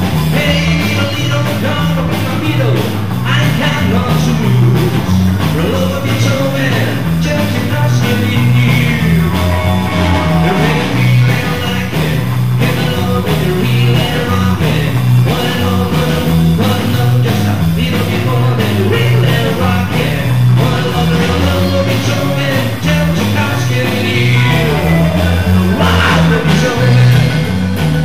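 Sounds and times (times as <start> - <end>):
drums: 0.0 - 28.0
electric bass line: 0.0 - 28.0
electric guitar: 0.0 - 28.0
man singing: 0.1 - 27.8.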